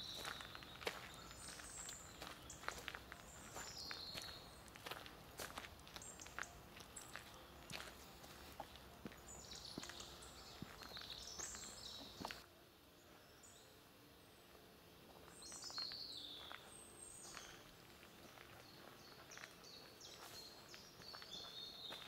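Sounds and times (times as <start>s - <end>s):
footsteps crunching on twigs: 0.0s - 12.4s, 15.1s - 22.0s
small birds chirping: 0.0s - 22.0s.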